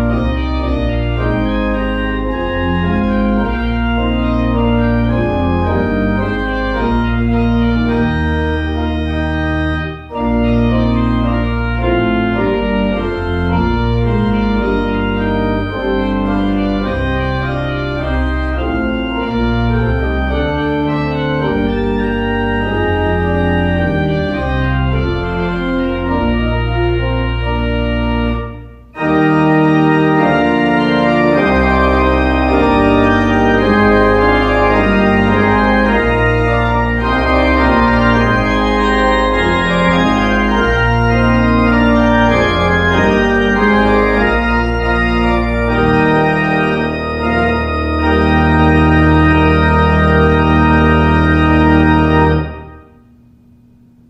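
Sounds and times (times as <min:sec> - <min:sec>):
organ music: 0:00.0 - 0:53.0.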